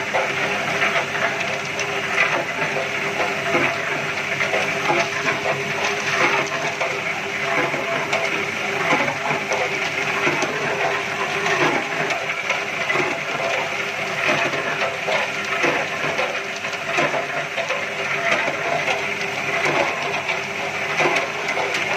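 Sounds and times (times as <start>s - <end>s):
ice machine running: 0.0s - 21.9s.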